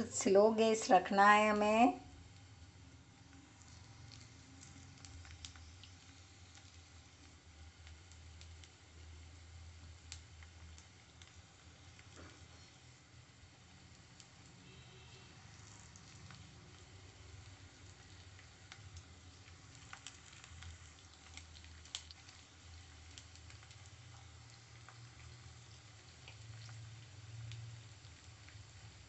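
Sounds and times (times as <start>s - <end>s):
carrot slices sizzling in a pan: 0.0s - 29.0s.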